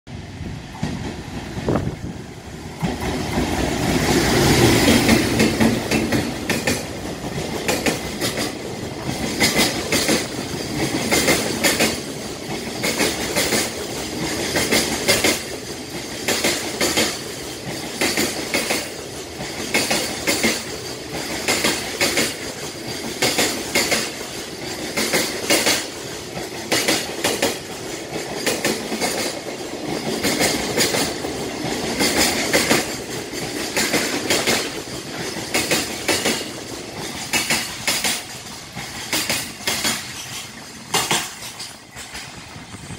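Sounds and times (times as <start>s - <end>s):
electric locomotive passing: 0.1s - 42.9s
train wheels clickety-clack: 0.6s - 42.9s.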